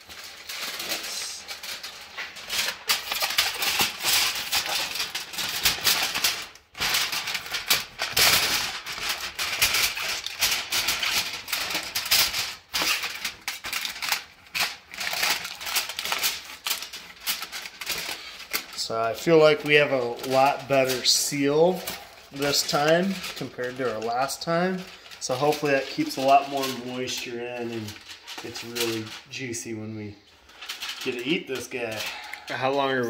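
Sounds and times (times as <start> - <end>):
aluminium foil crinkling: 0.0 - 33.0.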